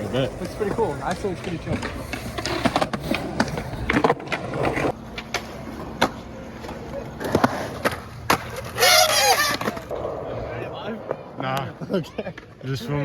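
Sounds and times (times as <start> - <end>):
skateboards clacking: 0.0 - 13.0.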